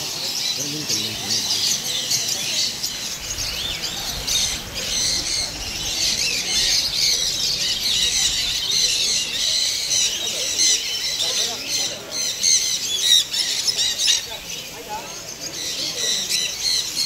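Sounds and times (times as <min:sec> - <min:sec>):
parrots chirping and screeching: 0:00.0 - 0:17.0.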